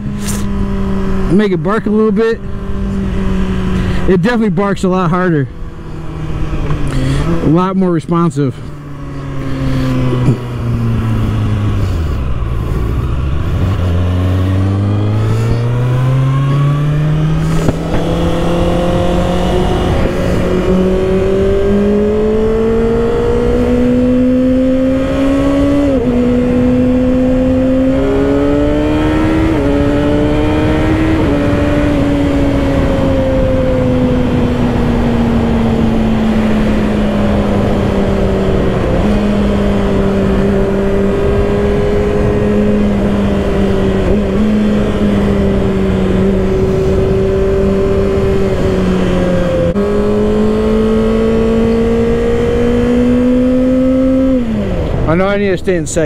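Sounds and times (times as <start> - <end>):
motorcycle engine revving: 0.0 - 56.0
wind rush: 8.6 - 56.0.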